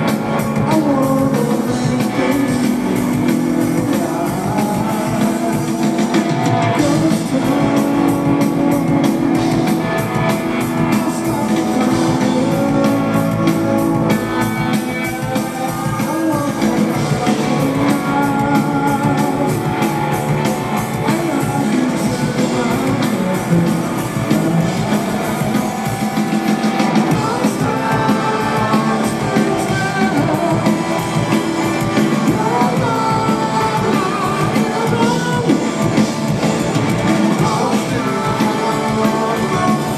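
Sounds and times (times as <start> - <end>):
bass guitar: 0.0 - 39.9
drum kit: 0.0 - 39.9
electric guitar: 0.0 - 39.9
lead vocals: 0.0 - 39.9.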